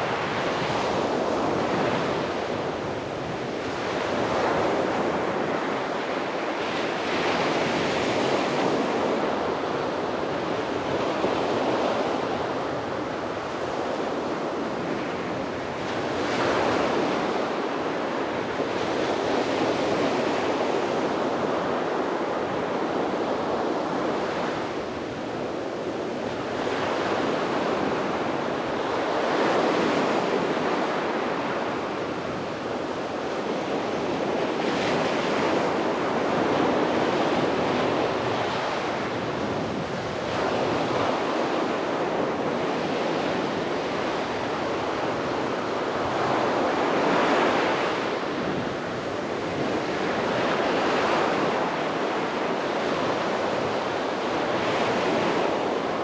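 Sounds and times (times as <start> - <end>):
sea waves washing on beach: 0.0 - 56.0.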